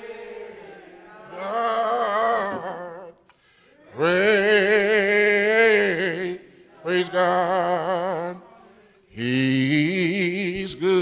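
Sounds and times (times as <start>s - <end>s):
slow gospel singing: 0.0s - 11.0s.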